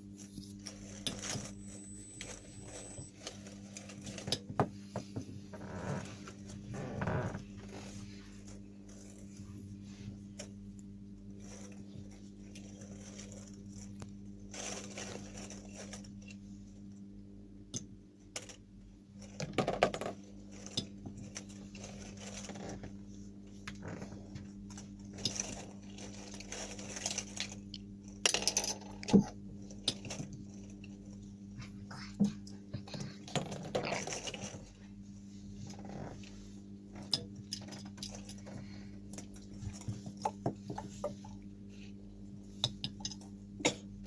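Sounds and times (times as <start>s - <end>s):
low electrical hum: 0.0s - 44.0s.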